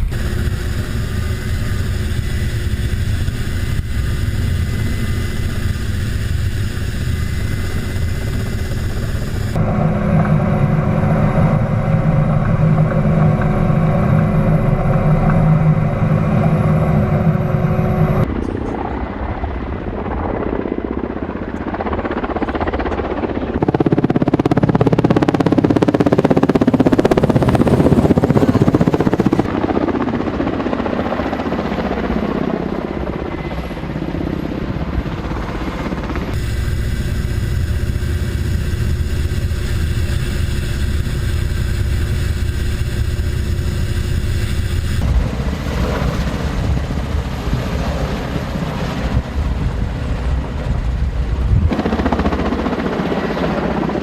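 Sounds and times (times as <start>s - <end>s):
helicopter engines and rotors: 0.0s - 54.0s
steady whining tones: 0.0s - 54.0s.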